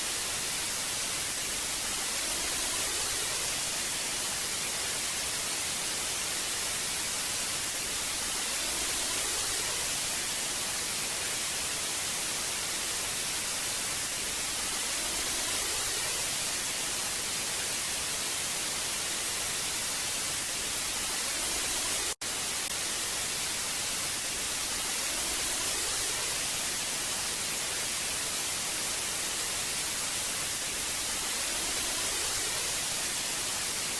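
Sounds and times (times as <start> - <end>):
tv static hiss: 0.0 - 33.9.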